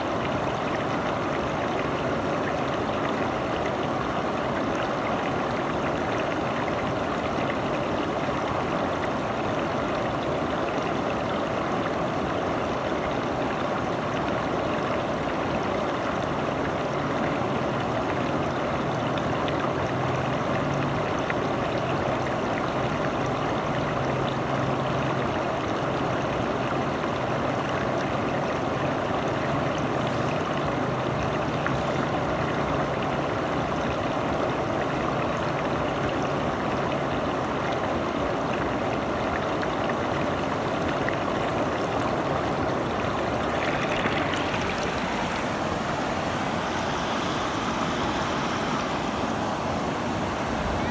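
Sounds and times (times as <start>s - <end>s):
river water flowing over rocks: 0.0s - 50.9s.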